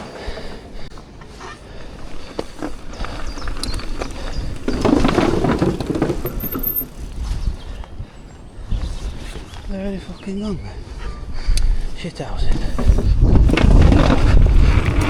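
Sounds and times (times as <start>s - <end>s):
bike rattling: 0.0s - 9.9s, 12.4s - 15.0s
bike tyres rolling on dirt: 0.0s - 10.9s, 11.7s - 15.0s
wind buffeting microphone: 0.0s - 15.0s.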